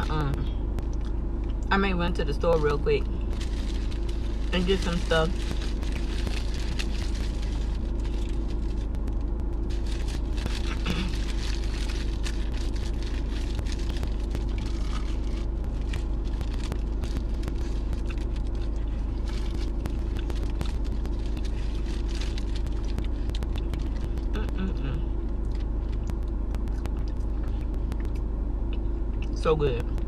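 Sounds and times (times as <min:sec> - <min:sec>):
car engine idling: 0:00.0 - 0:30.0
small clicks and crackles: 0:02.5 - 0:24.6, 0:25.4 - 0:28.2.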